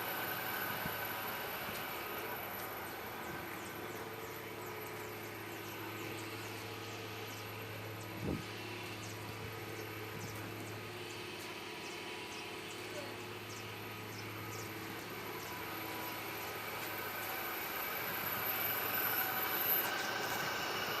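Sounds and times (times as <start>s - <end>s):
machine humming and whining: 0.0s - 21.0s.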